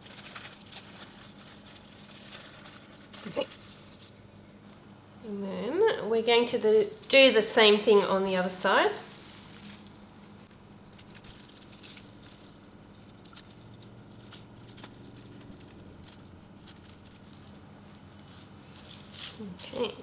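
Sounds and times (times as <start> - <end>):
plastic sheet rustling: 0.0 - 4.2, 6.7 - 20.0
faint steady hum: 0.0 - 20.0.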